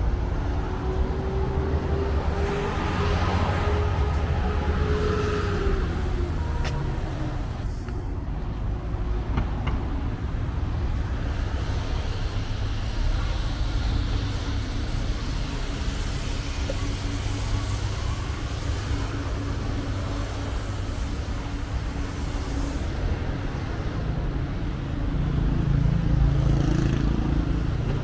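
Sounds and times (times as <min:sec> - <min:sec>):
passing cars rumbling: 0:00.0 - 0:28.0.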